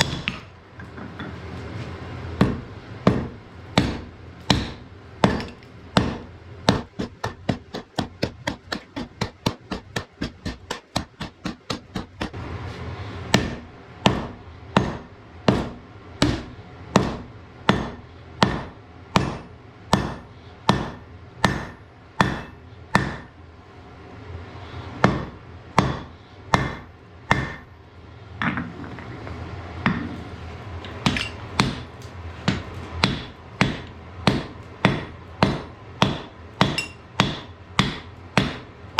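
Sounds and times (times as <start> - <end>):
hammer striking hot iron: 0.0 - 1.6, 2.3 - 12.4, 13.3 - 23.4, 25.0 - 27.7, 30.8 - 38.8.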